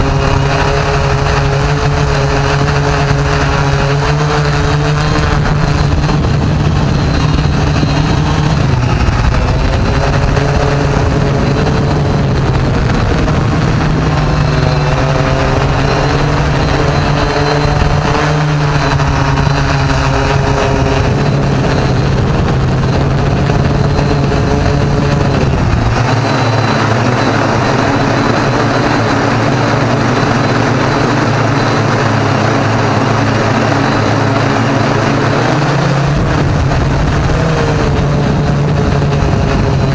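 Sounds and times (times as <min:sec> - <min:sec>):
deep rumble: 0:00.0 - 0:39.9
drone propellers whining: 0:00.0 - 0:39.9.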